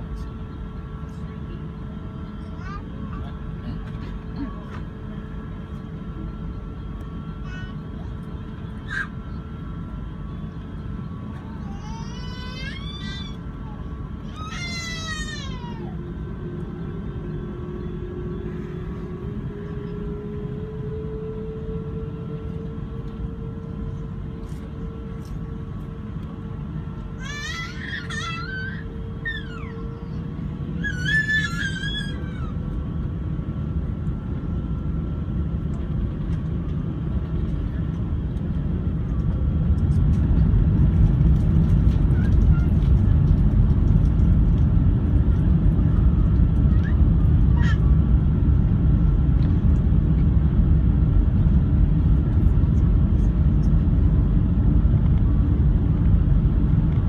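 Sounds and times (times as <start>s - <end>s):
jet engine whine: 0.0s - 57.0s
jet engines rumbling: 0.0s - 57.0s.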